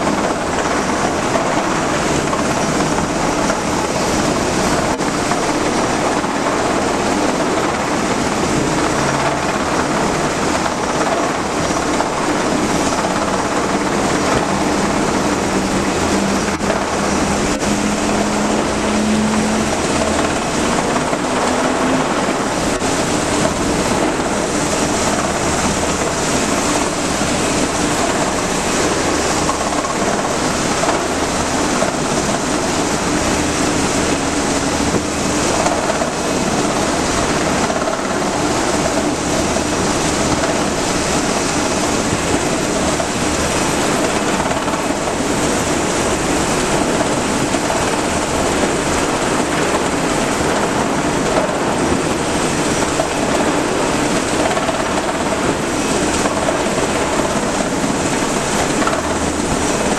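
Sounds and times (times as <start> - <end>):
ship engines rumbling: 0.0 - 59.9.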